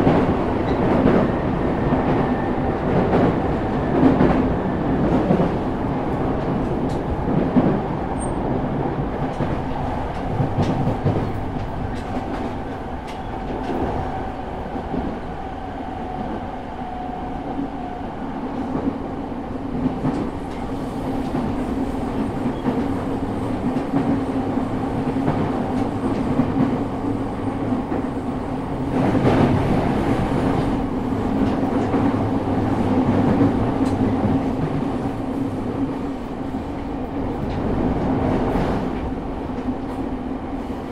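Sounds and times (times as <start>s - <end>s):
rail joint clicks: 0.0s - 17.6s, 19.6s - 40.9s
train motor and gear hum: 0.0s - 40.9s.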